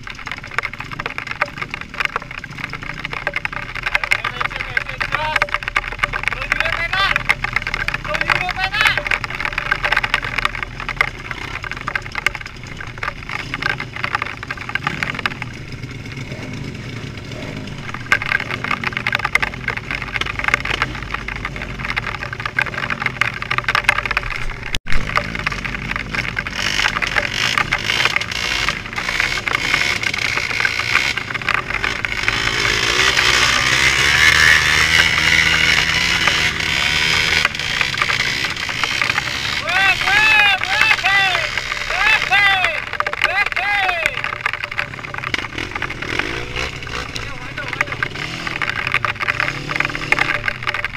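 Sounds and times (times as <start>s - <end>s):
small clicks and rattles: 0.0s - 50.9s
vehicle engine drone: 0.0s - 50.9s.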